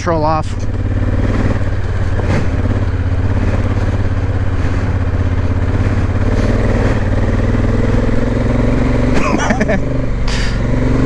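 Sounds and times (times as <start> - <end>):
motorcycle engine pulling uphill: 0.0 - 11.0.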